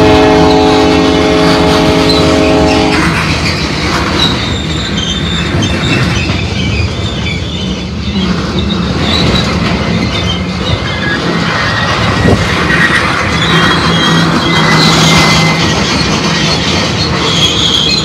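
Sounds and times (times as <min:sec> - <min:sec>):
train wheels rumbling on rails: 0:00.0 - 0:18.0
high-pitched wheel squeals: 0:00.2 - 0:18.0.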